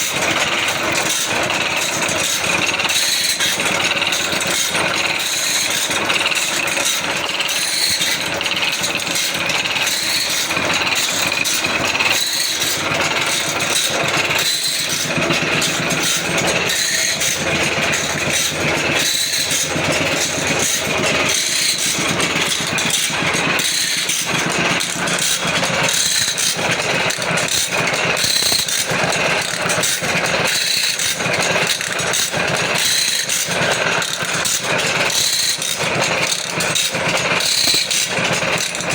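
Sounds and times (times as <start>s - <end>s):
sharpening machine rattling: 0.0s - 38.9s.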